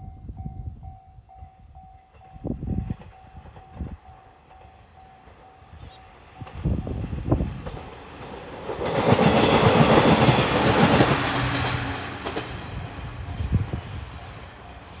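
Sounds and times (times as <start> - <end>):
diesel train passing: 1.8 - 15.0.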